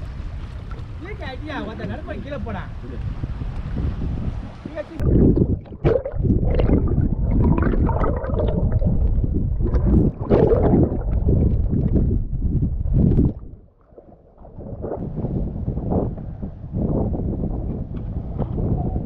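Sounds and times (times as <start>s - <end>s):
underwater gurgling and sloshing: 0.0s - 19.0s.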